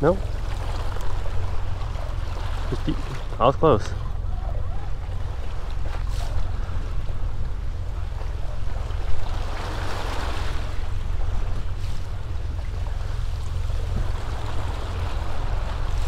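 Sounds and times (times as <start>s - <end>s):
water washing against boat hull: 0.0s - 16.0s
wind rumbling on microphone: 0.0s - 16.0s.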